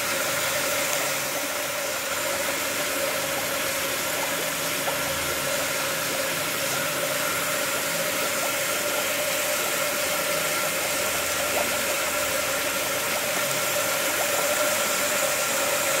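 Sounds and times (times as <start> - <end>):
pump humming: 0.0 - 16.0.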